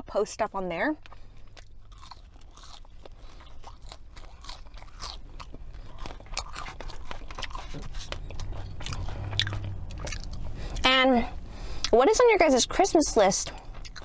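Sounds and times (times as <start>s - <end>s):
person chewing crunchy food: 1.0s - 12.0s, 13.4s - 14.0s.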